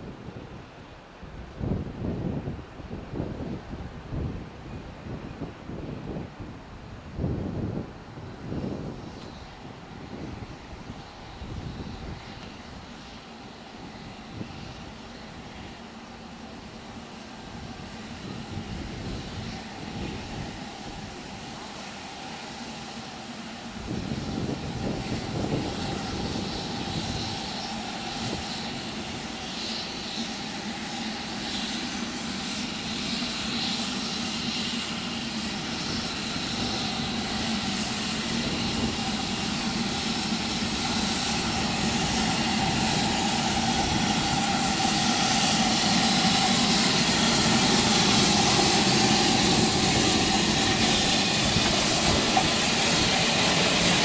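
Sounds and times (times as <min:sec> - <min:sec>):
steam locomotive hauling coaches: 0:00.0 - 0:54.0.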